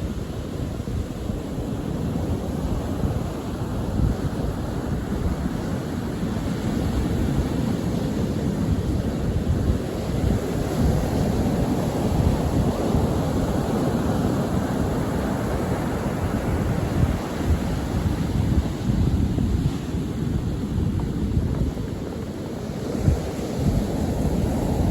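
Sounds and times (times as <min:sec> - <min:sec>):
sea waves washing onto shore: 0:00.0 - 0:24.9
wind rumbling on microphone: 0:00.0 - 0:24.9.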